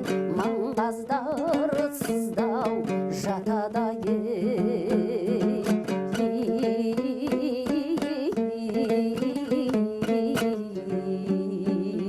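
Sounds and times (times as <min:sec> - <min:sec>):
plucked lute strummed rhythmically: 0:00.0 - 0:12.0
wavering wordless vocal: 0:00.0 - 0:12.0.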